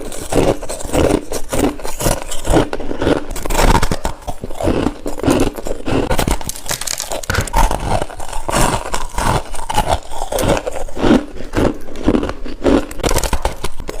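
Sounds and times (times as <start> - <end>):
ice being chewed: 0.0 - 14.0.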